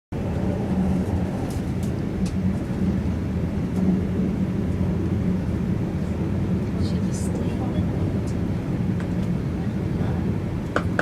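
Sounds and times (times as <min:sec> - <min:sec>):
train carriage rumble: 0:00.1 - 0:11.0.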